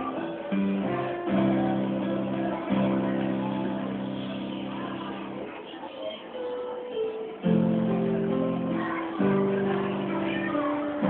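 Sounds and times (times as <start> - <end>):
acoustic guitar chords: 0.0 - 5.8, 7.3 - 11.0.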